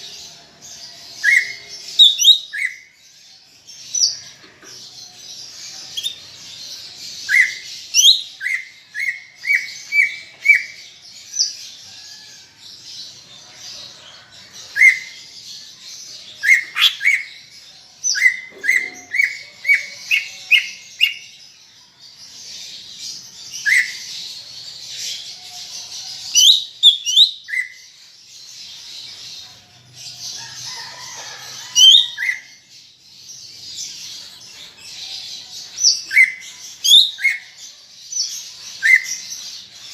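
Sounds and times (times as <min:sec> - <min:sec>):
high chattering bird warble: 0:00.0 - 0:39.9.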